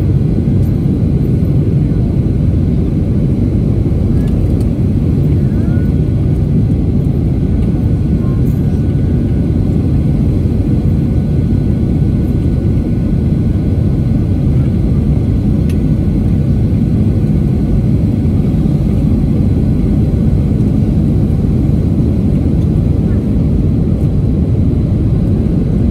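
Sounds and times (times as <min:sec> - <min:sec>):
airflow and jet engines rushing: 0:00.0 - 0:25.9.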